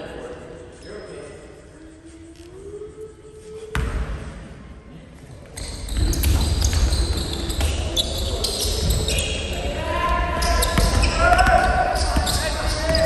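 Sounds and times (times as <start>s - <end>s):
voices in a hall: 0.0s - 13.0s
sneakers squeaking: 0.7s - 4.5s, 5.4s - 13.0s.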